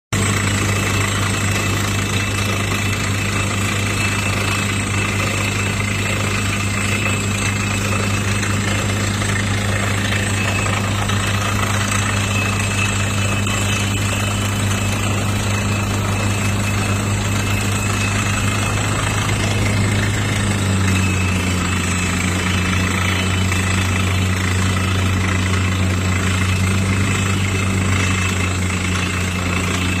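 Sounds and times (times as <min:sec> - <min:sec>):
drilling rig engine drone: 0:00.2 - 0:30.0
rapid drill rattle: 0:00.2 - 0:30.0.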